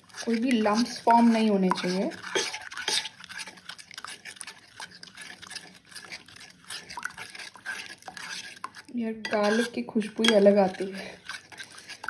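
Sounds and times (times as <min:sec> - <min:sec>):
spoon stirring batter in bowl: 0:00.0 - 0:12.0.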